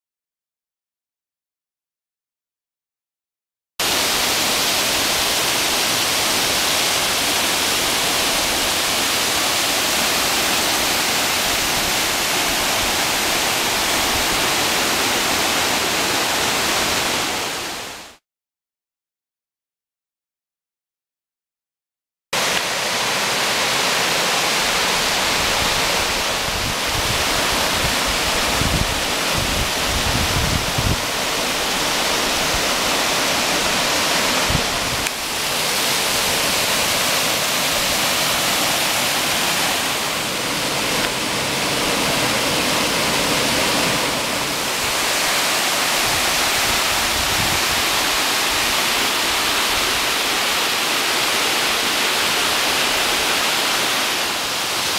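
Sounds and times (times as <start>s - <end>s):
waterfall rushing over rocks: 3.8s - 18.2s, 22.4s - 54.9s.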